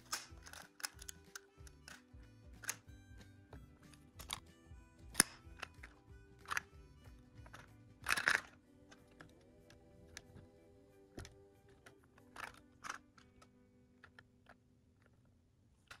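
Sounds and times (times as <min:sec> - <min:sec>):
plastic toy clicking and knocking: 0:00.0 - 0:10.5, 0:11.1 - 0:16.0
faint background music: 0:00.0 - 0:16.0.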